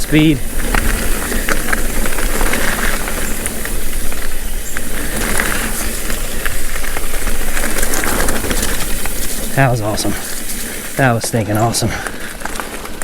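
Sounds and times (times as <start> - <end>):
bike clicks and rattles: 0.0 - 13.0
bike rolling over dirt trail: 0.0 - 13.0
wind buffeting microphone: 0.0 - 13.0.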